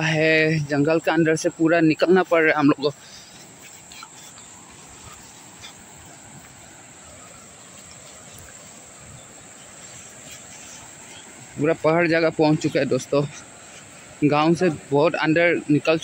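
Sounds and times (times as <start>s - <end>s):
high-pitched insect chorus: 0.0s - 16.0s
footsteps through tall grass: 2.0s - 15.0s.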